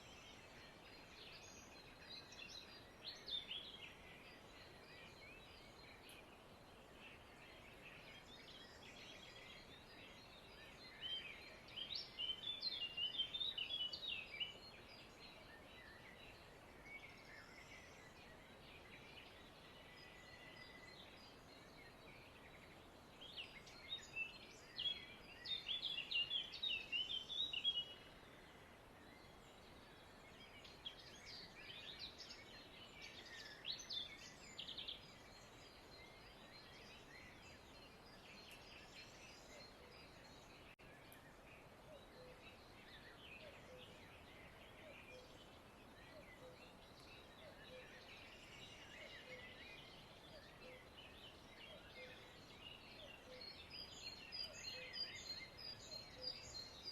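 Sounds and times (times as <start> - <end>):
birds chirping: 0.0 - 56.9.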